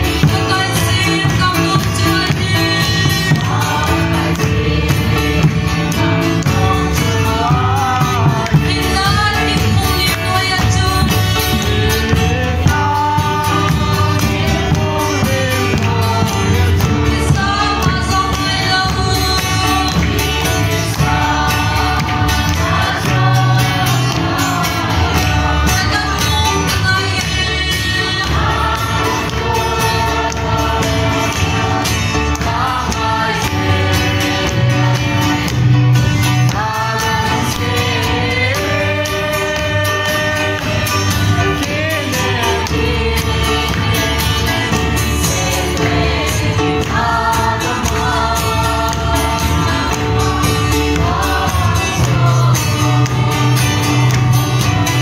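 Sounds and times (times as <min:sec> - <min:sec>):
amplified instrumental backing: 0:00.0 - 0:55.0
group singing a hymn: 0:00.0 - 0:55.0.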